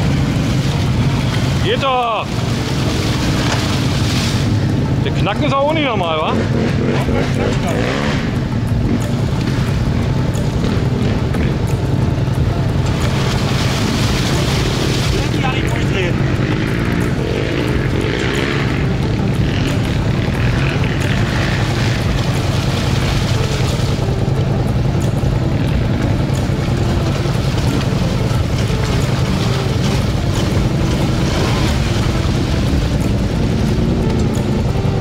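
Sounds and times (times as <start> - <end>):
quad engine running: 0.0 - 35.0.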